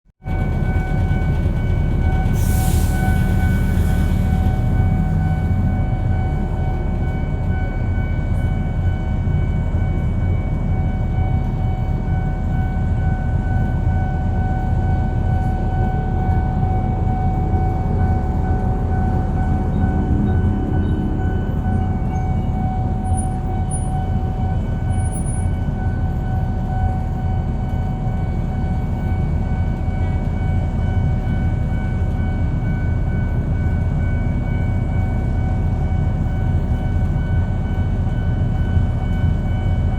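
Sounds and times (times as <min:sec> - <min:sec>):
train rumbling past: 0:00.2 - 0:39.9
steady high tone: 0:00.4 - 0:32.8.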